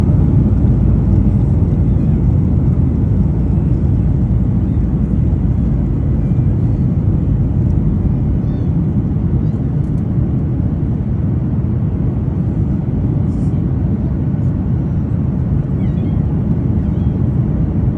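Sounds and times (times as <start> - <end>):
airliner cabin engine rumble: 0.0 - 17.9.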